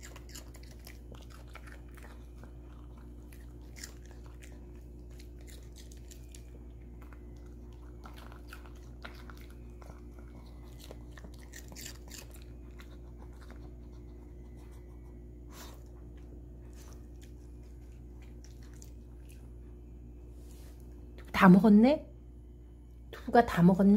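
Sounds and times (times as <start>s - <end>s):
dog chewing crunchy food: 0.0s - 19.9s
steady low hum: 0.0s - 23.9s.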